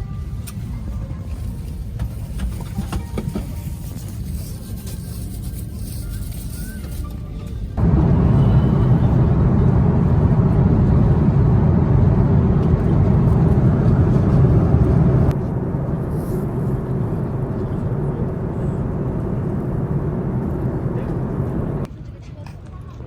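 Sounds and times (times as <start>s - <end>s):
moving vehicle rumble: 0.0s - 21.9s.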